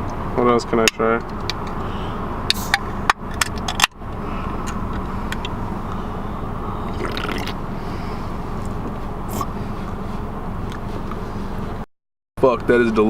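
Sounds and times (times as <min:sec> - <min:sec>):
car interior hum: 0:00.0 - 0:13.0.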